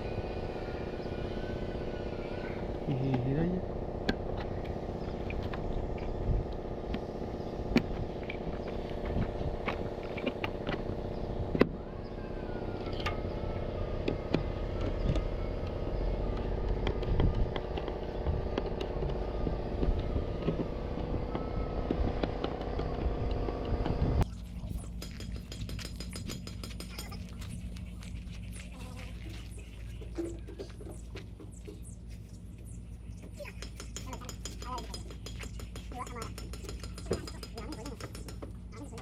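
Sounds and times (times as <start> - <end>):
mechanical running hum: 0.0 - 39.0.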